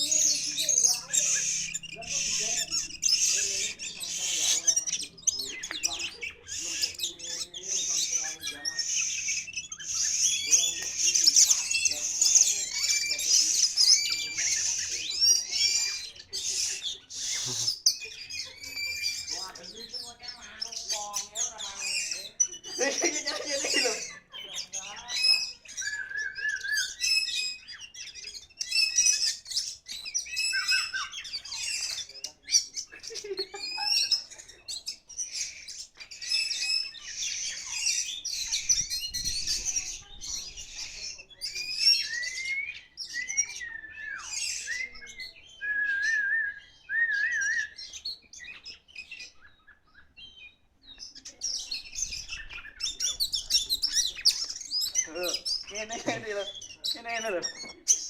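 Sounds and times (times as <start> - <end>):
bird singing whistles and trills: 0.0 - 23.0, 23.7 - 55.8.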